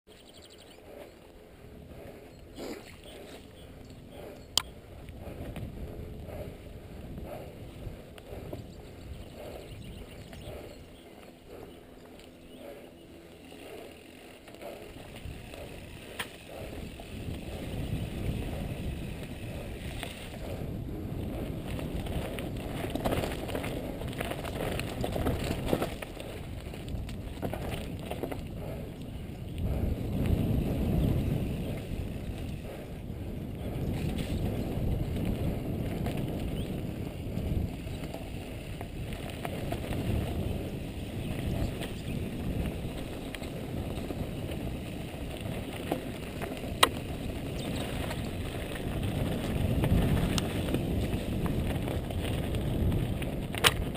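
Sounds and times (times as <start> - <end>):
wind on microphone: 0.1 - 53.9
bike rattling: 0.2 - 53.9
bike tyres on gravel: 0.2 - 53.9.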